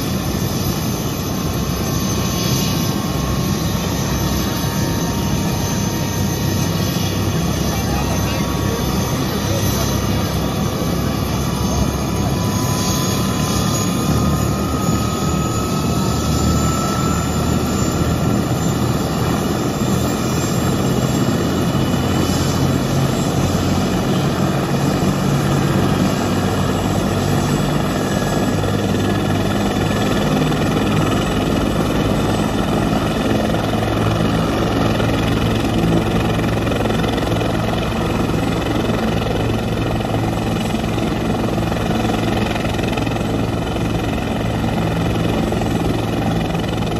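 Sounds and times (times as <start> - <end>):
helicopter rotor and engine: 0.0 - 46.9
turbine whine: 0.0 - 46.9.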